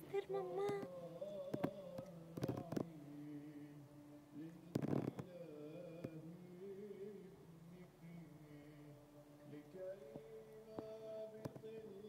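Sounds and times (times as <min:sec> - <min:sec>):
person chanting held notes: 0:00.0 - 0:12.0.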